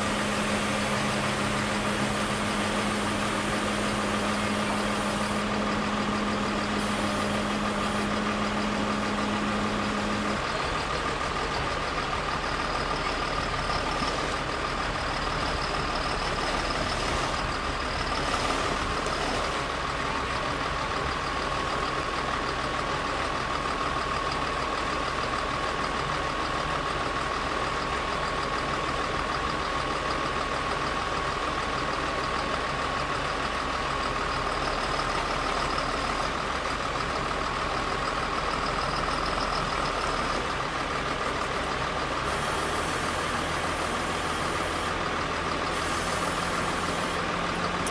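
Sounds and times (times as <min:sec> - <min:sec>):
heavy machine engine running: 0:00.0 - 0:47.9.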